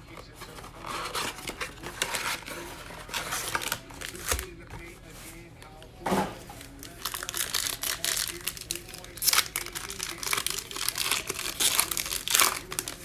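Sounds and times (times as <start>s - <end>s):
plastic wrapping crinkling and tearing: 0.0s - 13.0s.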